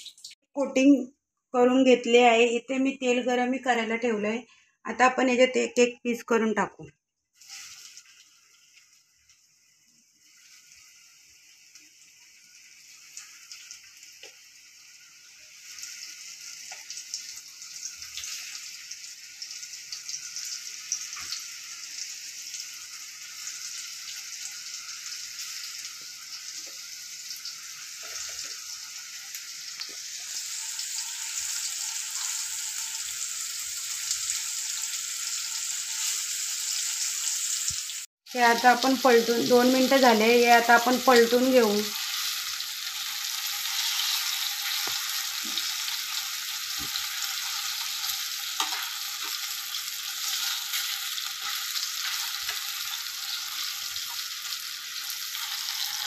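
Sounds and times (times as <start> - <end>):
chicken frying in hot oil: 0.0 - 0.4, 7.3 - 56.0.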